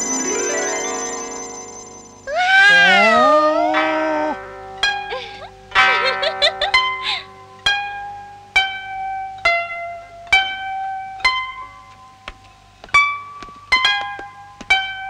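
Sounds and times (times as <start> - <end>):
slow plucked string melody: 0.0 - 12.2, 12.9 - 15.0.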